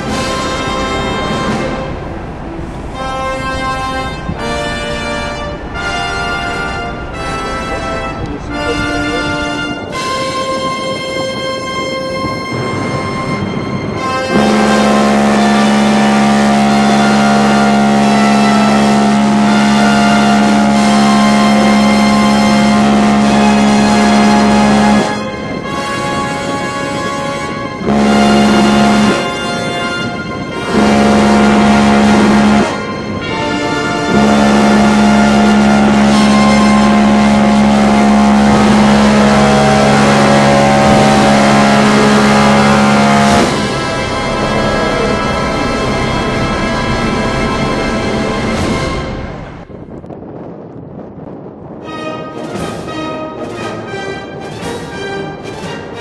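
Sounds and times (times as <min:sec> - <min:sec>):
ship's horn blast: 0:00.0 - 0:50.6, 0:51.2 - 0:56.0.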